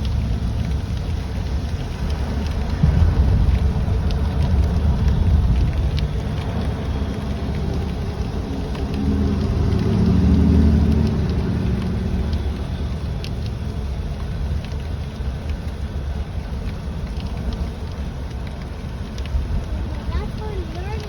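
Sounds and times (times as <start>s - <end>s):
car road and engine rumble: 0.0s - 21.0s
raindrops ticking: 0.0s - 21.0s.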